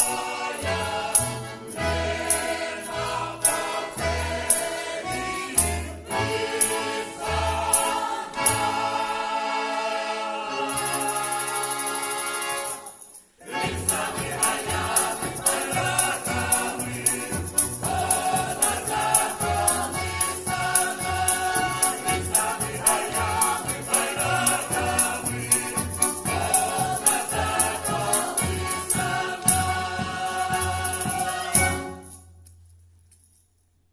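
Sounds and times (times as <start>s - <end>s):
jingling percussion: 0.0s - 9.3s, 10.5s - 33.9s
choir singing in harmony: 0.0s - 32.1s
rhythmic accompaniment: 0.0s - 33.1s.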